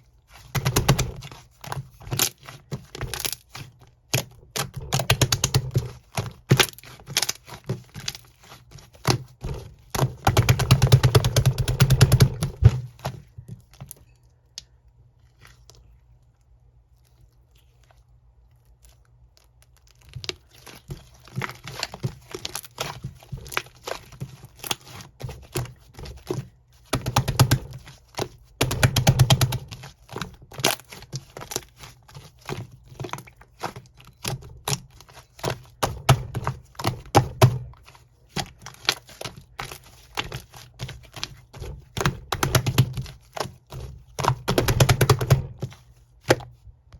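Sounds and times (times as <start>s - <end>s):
slime squished by hand: 0.0s - 46.9s.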